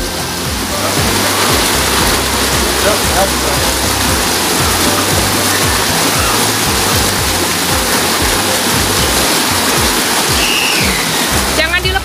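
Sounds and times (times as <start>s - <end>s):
water gushing into pool: 0.0s - 12.0s.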